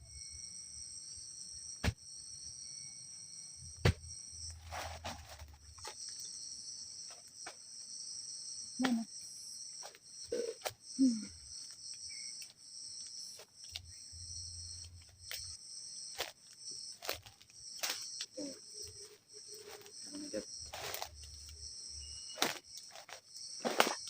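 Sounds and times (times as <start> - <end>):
forest insects chorus: 0.0 - 24.0.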